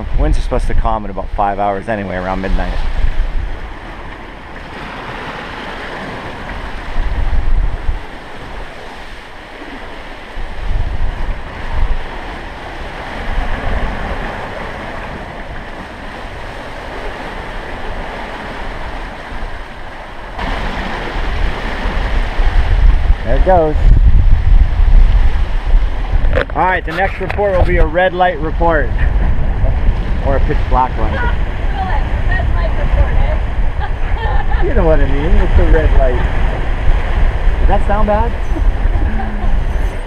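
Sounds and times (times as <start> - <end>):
sea water rushing past hulls: 0.0 - 40.0
wind buffeting microphone: 0.0 - 40.0.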